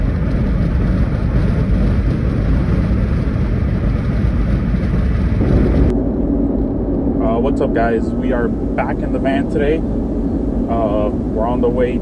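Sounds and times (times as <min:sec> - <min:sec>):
road and engine rumble: 0:00.0 - 0:12.0
wind noise: 0:00.0 - 0:12.0.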